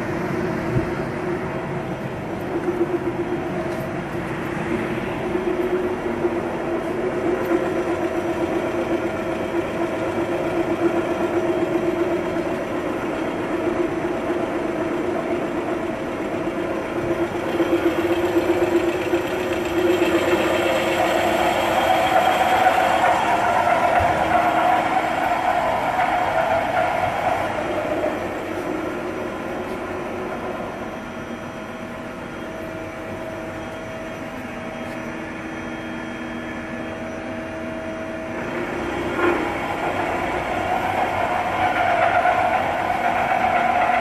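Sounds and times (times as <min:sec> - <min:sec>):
machining center humming: 0:00.0 - 0:44.0.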